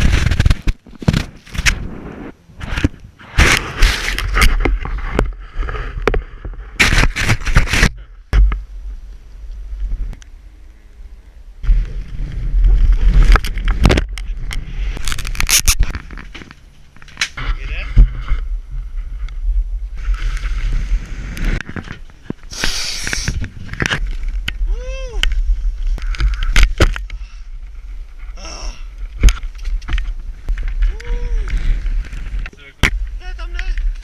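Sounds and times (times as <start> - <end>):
wind rumble on microphone: 0.0 - 34.0.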